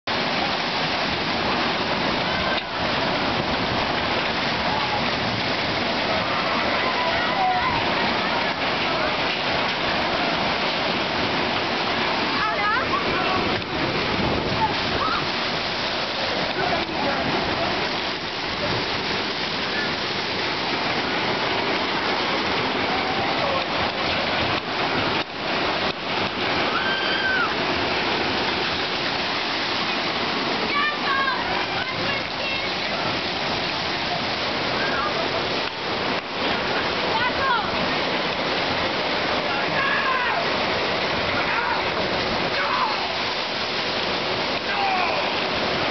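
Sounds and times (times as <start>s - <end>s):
water rushing through channel: 0.0s - 45.9s
water pouring into splash pool: 0.1s - 45.9s.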